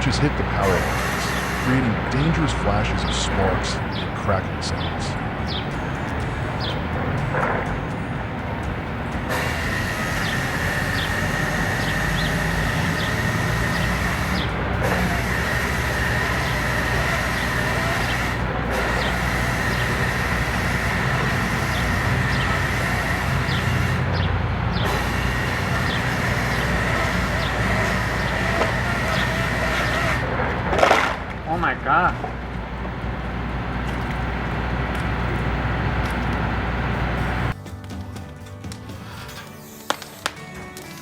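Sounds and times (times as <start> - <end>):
heavy machine engine running: 0.0 - 37.6.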